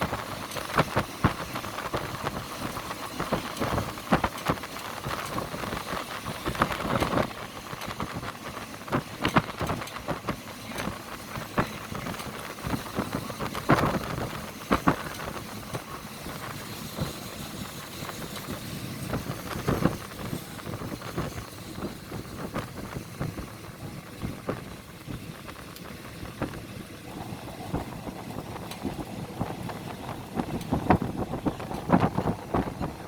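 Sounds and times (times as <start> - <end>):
moving train rumbling: 0.0 - 33.0.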